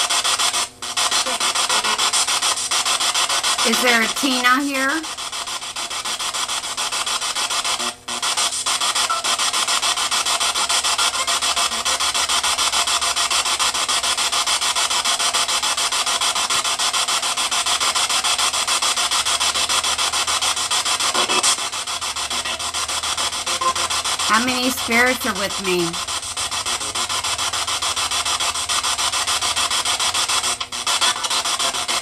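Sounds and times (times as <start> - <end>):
chopped radio static hiss: 0.0 - 32.0.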